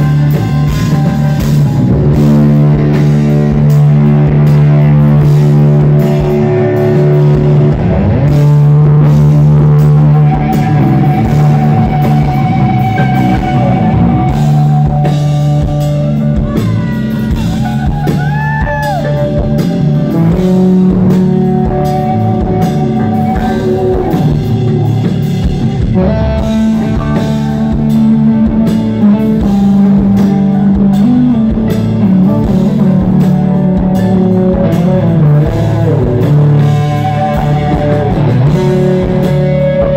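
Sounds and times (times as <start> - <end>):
electric guitar long notes: 0.0 - 39.9
rock band playing loud: 0.0 - 39.9.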